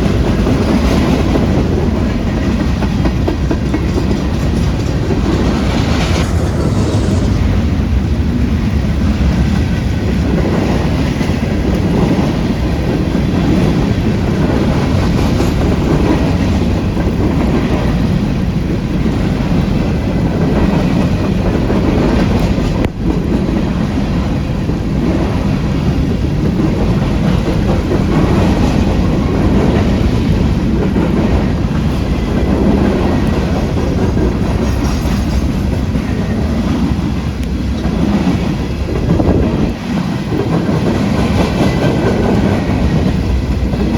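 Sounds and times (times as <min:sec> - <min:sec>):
rumble of railcars: 0:00.0 - 0:43.9.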